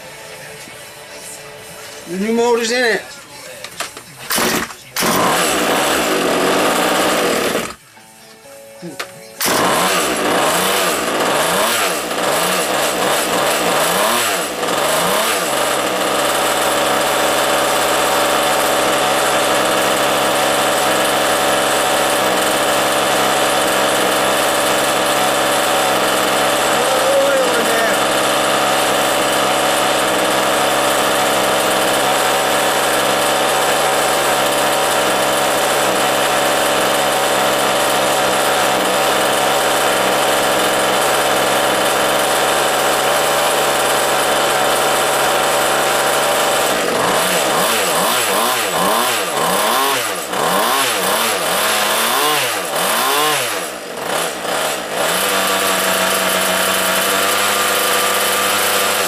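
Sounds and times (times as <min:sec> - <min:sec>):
two-stroke engine revving: 0:04.3 - 0:07.8, 0:09.4 - 0:59.0.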